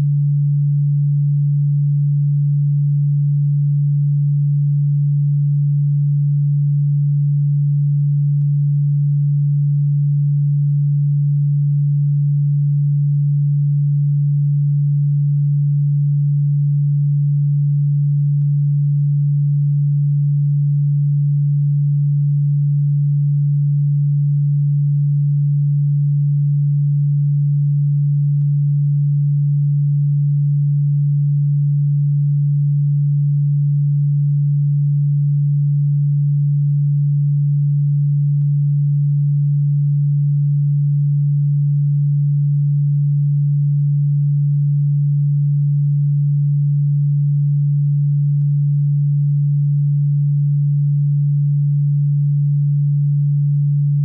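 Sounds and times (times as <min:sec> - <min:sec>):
low electronic tone: 0:00.0 - 0:54.0.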